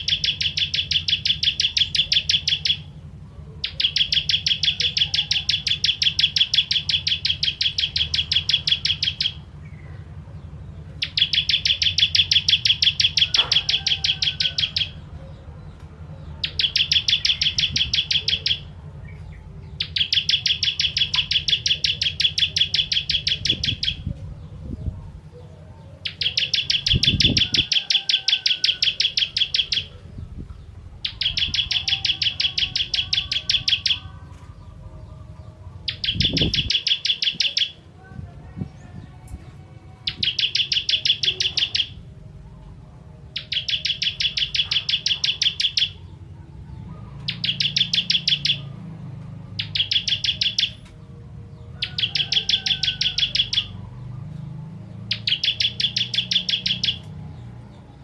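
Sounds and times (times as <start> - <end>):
songbird singing rapid trills: 0.0 - 58.0.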